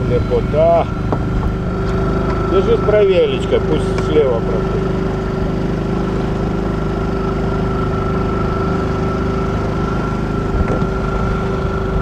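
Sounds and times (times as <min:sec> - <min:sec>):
small outboard motor running: 0:00.0 - 0:12.0.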